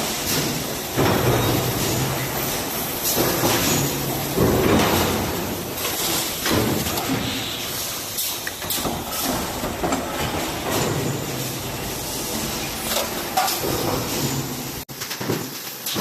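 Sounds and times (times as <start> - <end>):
production line machinery hissing: 0.0 - 14.9
knocks and clanks: 0.3 - 7.5, 8.2 - 15.5.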